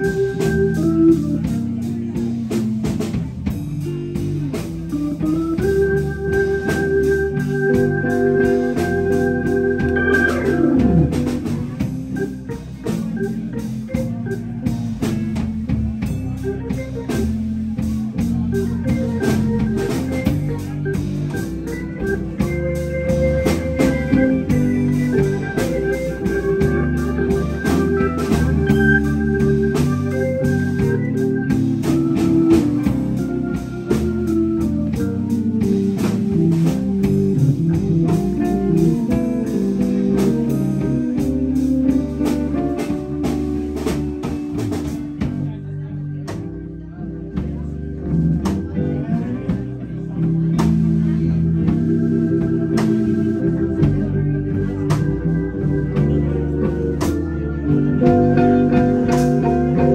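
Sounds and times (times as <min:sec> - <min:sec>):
blues band playing: 0:00.0 - 0:59.9
keytar organ sound: 0:00.0 - 0:59.9.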